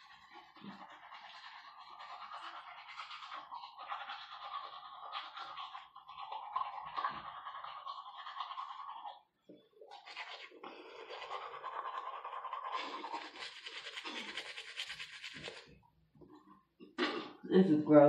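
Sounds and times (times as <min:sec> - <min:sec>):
toothbrush scrubbing teeth: 0:00.0 - 0:15.8.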